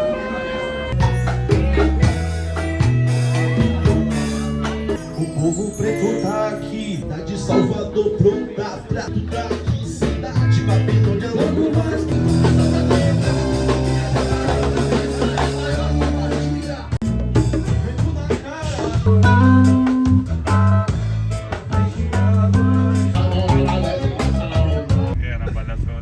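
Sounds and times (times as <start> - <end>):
music with guitar and drums: 0.9 - 25.2.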